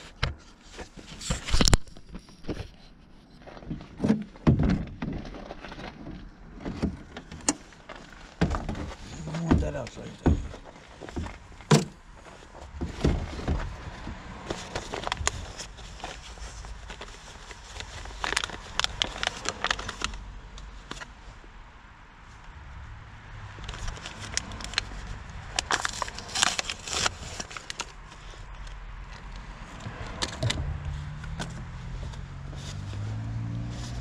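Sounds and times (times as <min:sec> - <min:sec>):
rustling: 0:00.0 - 0:20.2, 0:23.7 - 0:30.2, 0:30.8 - 0:34.0.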